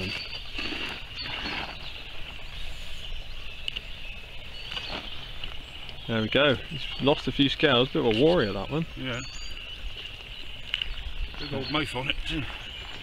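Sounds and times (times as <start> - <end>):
distant birdsong: 0.0 - 13.0.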